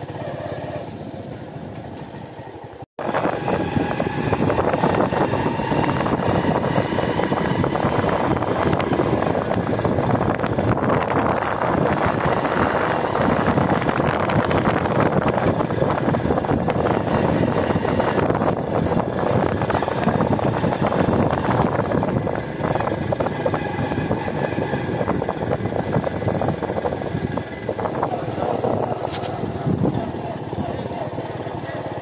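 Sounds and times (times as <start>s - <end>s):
motorcycle engine and road noise: 0.0s - 32.0s
wind buffeting microphone: 3.0s - 31.6s.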